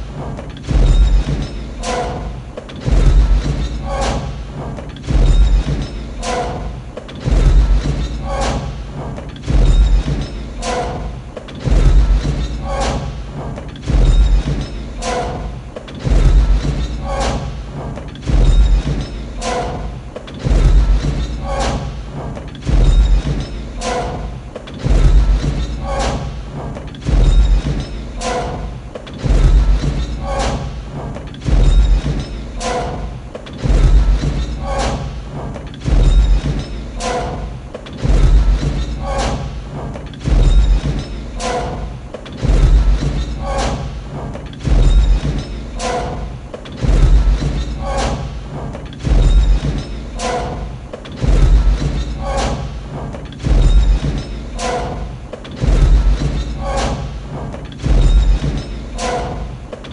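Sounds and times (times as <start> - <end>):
deep booming footfalls: 0.0 - 59.9.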